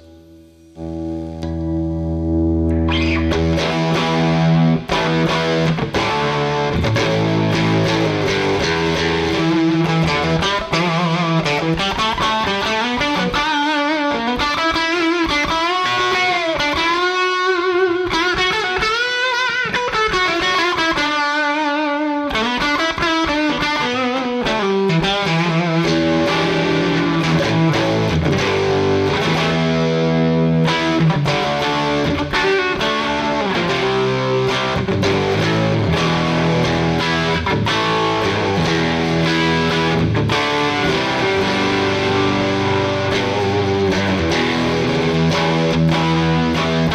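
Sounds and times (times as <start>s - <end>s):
electric guitar through amplifier: 0.0s - 46.9s.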